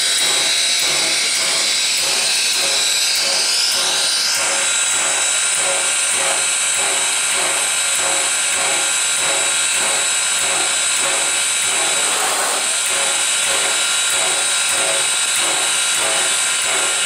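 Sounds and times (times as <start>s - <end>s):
mechanical pulsing: 0.0s - 17.0s
steam locomotive hissing: 0.0s - 17.0s.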